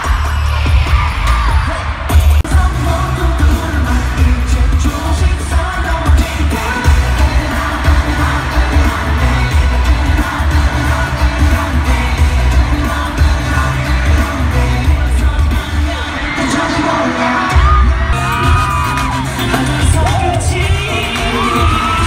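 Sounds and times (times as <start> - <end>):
heavy pulsing bass beat: 0.0 - 16.1, 17.5 - 22.0
pop music with singing: 0.0 - 22.0.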